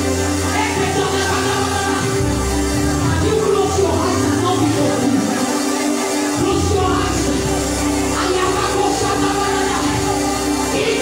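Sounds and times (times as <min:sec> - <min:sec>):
gospel music over loudspeakers: 0:00.0 - 0:11.0.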